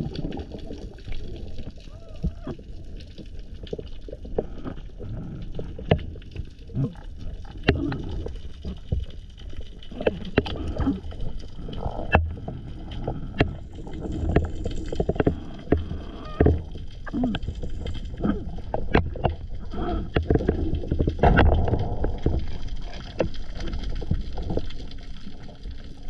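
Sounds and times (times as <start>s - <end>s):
water rushing underwater: 0.0s - 26.0s.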